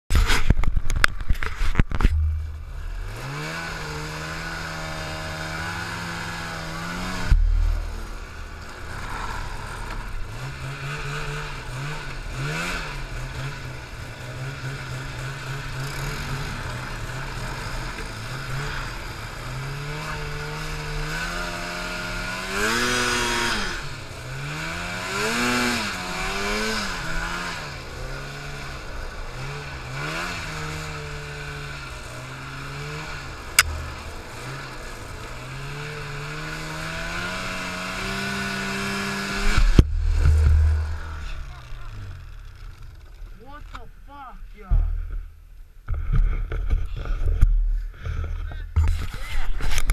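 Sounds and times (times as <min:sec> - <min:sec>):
snowmobile engine revving: 0:01.4 - 0:45.2.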